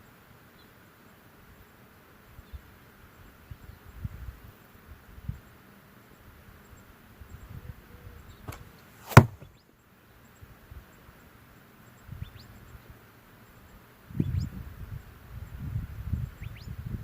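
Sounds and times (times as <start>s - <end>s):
faint bird chirps: 2.3s - 16.9s.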